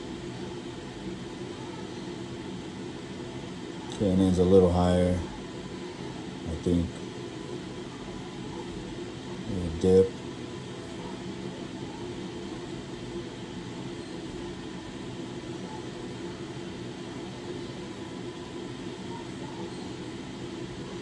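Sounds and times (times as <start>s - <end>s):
blower motor hum: 0.0s - 21.0s.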